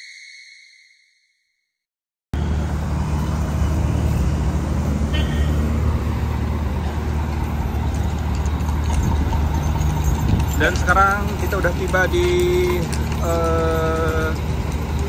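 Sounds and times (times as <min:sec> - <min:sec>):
street traffic: 0:02.4 - 0:15.0
vehicle engine idling: 0:02.4 - 0:15.0.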